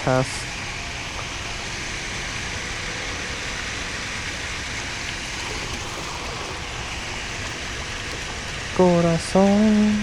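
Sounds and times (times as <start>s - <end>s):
fountain water rushing: 0.0s - 10.0s.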